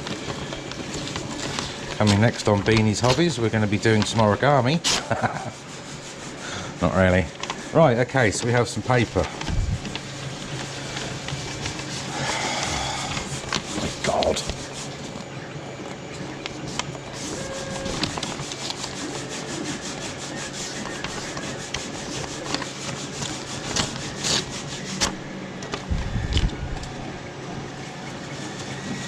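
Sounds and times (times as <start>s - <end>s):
paper rubbing and rustling: 0.0s - 29.0s.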